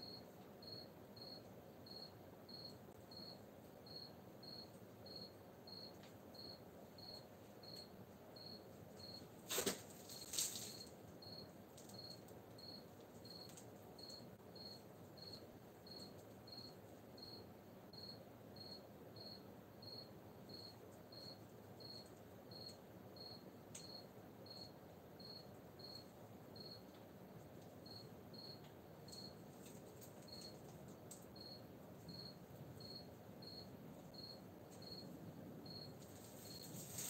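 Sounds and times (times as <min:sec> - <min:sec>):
cricket chirping: 0:00.0 - 0:37.0.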